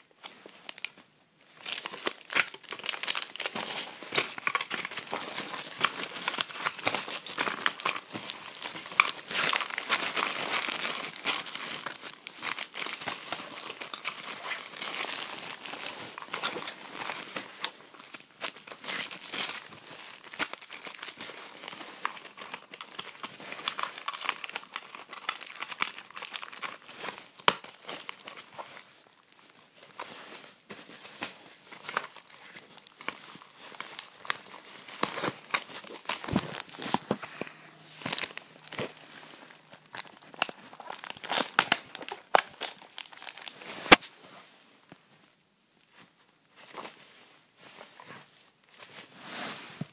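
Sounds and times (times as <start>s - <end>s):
packaging crinkling and rustling: 0.2s - 44.1s.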